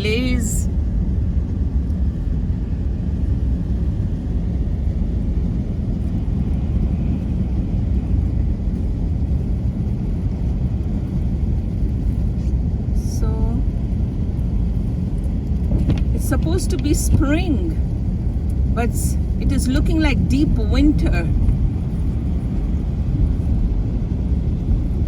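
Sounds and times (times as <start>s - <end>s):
vehicle and road noise: 0.0s - 25.0s.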